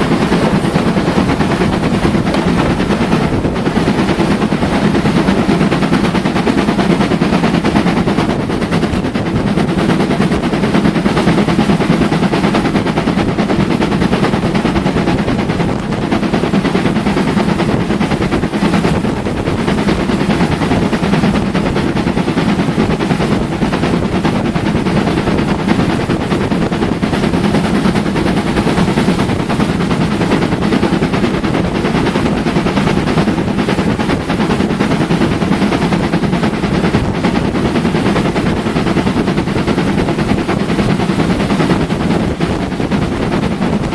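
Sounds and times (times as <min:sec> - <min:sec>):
train running with fast pulsing: 0:00.0 - 0:43.9.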